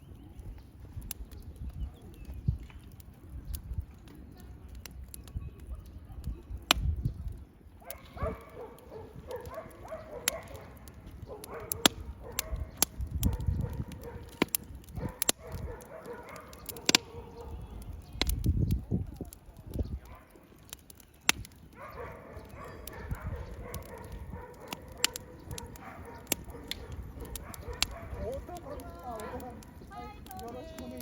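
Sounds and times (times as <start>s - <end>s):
bonfire crackling and popping: 0.0s - 31.0s.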